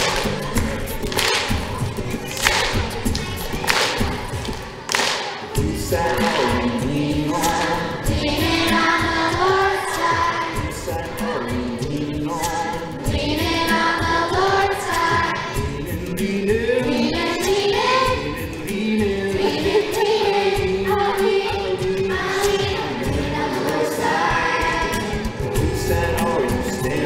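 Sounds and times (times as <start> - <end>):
group of voices singing: 0.0 - 27.0
worship song with backing track: 0.0 - 27.0.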